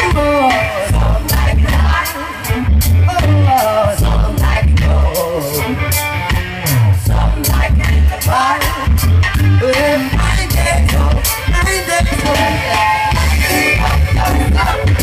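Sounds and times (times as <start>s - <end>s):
singer's vocals: 0.0s - 6.0s, 6.7s - 15.0s
drums: 0.0s - 15.0s
electric guitar: 0.0s - 15.0s
heavy bass line: 0.0s - 15.0s.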